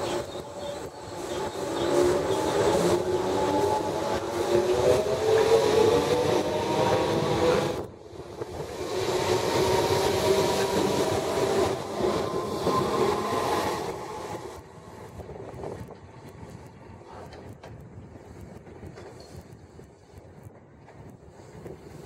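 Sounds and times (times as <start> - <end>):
rail noise: 0.0 - 22.0.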